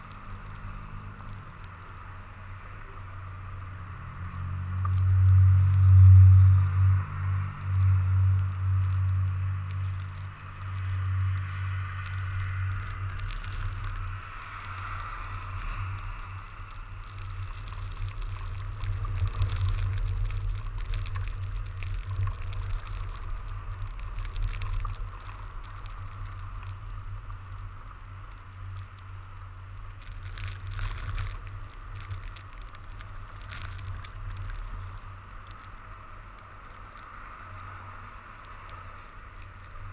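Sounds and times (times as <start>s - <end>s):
tyres rolling through snow: 0.0s - 39.9s
wind rumble on microphone: 0.0s - 39.9s.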